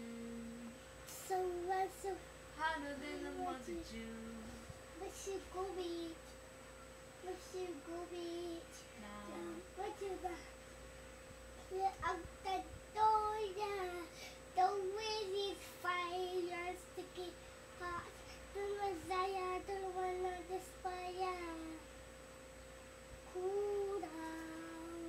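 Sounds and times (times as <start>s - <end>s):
boy singing unaccompanied: 0.0s - 6.2s, 7.2s - 10.5s, 11.7s - 21.8s, 23.3s - 25.0s.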